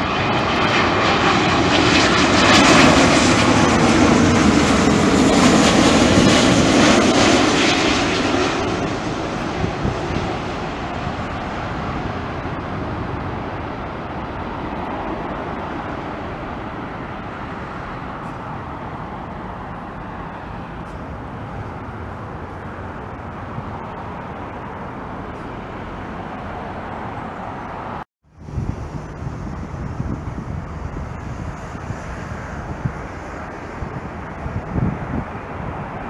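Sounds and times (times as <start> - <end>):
jet airliner engine roar: 0.0 - 36.0
wind rumble on microphone: 0.0 - 36.0.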